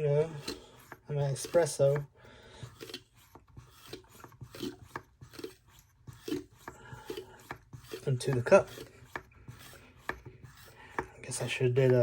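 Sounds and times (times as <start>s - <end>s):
hand pump rasping strokes: 0.0s - 12.0s.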